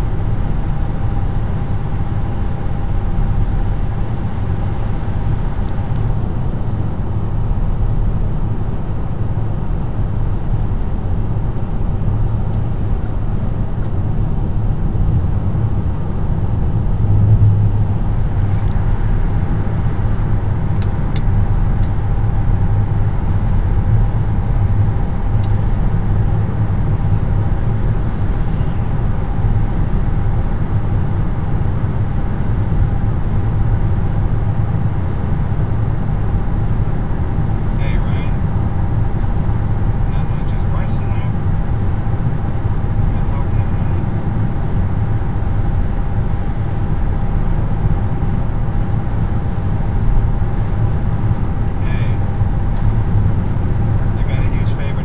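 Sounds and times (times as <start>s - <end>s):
car road noise at highway speed: 0.0s - 55.0s.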